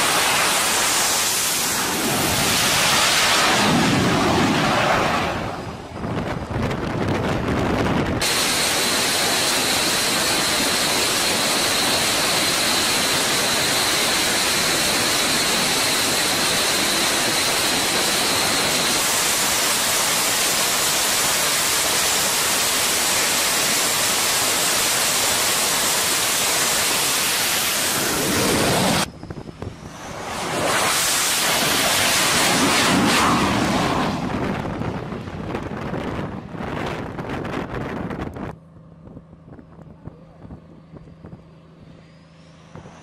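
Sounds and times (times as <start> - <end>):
jet engines roaring: 0.0 - 38.6, 40.7 - 43.0
high turbine whine: 0.0 - 43.0.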